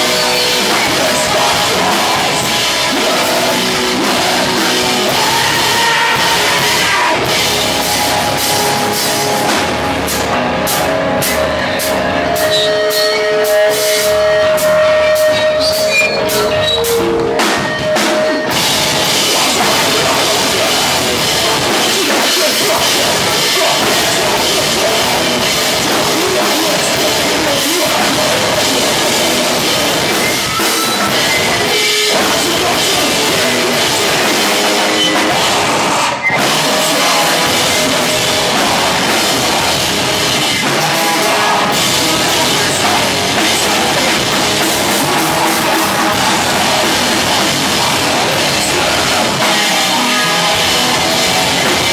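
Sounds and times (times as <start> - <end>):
person singing into microphone: 0.0 - 9.5, 11.2 - 51.9
rock band playing live: 0.0 - 51.9.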